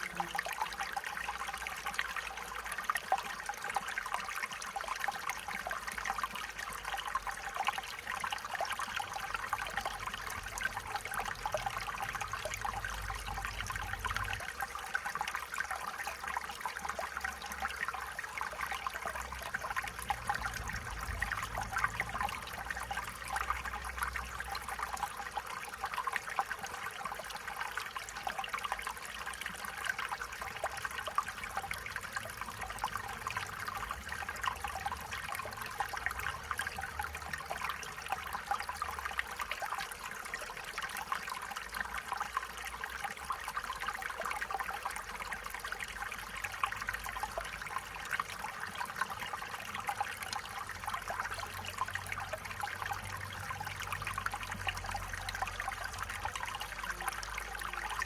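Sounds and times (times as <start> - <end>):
stream trickling over stones: 0.0 - 58.0.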